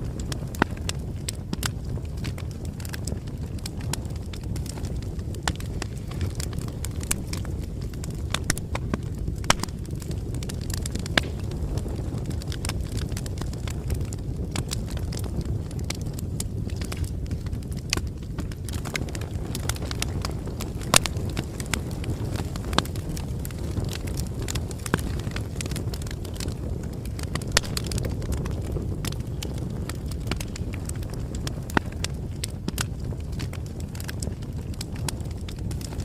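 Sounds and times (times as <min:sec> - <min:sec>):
fire crackling and popping: 0:00.0 - 0:36.0
low rumble of flame: 0:00.0 - 0:36.0.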